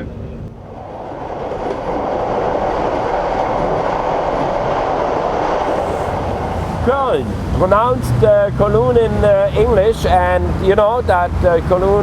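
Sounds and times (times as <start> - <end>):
passenger train rumbling on rails: 0.0 - 12.0.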